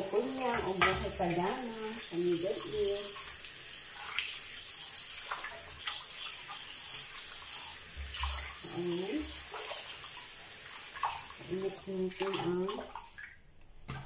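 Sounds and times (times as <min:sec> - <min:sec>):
tap running into washbasin: 0:00.0 - 0:14.0
water splashing: 0:00.0 - 0:14.0.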